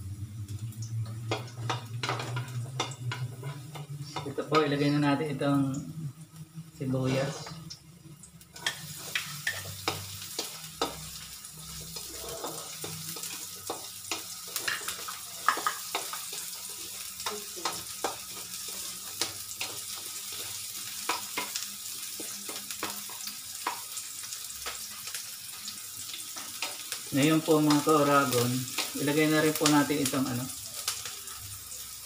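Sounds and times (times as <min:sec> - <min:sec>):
onion and garlic sizzling in oil: 0:00.0 - 0:32.0.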